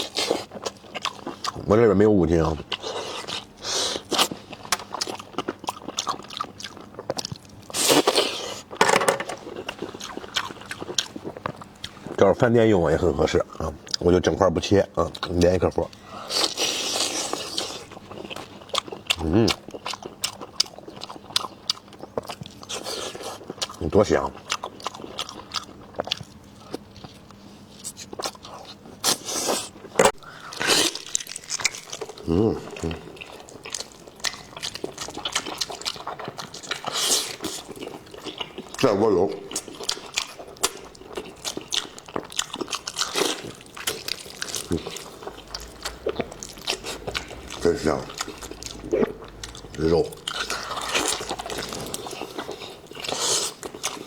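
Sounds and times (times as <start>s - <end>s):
close biting and chewing: 0.0s - 1.7s, 2.6s - 8.8s, 9.4s - 12.2s, 15.1s - 54.0s.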